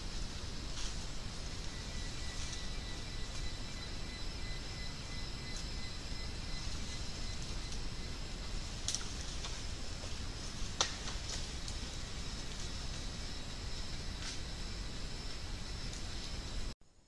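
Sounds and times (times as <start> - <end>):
high insect tones: 0.0 - 16.8
low rumble and hiss: 0.0 - 17.0.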